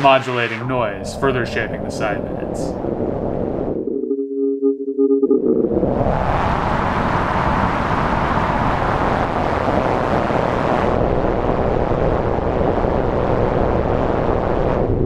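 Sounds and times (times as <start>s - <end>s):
dense synthesizer rushing noise: 0.0s - 15.0s.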